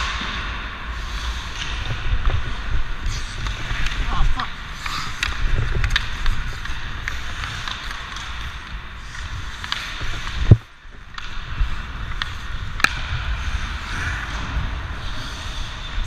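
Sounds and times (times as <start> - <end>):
skates scraping on ice: 0.0 - 16.0.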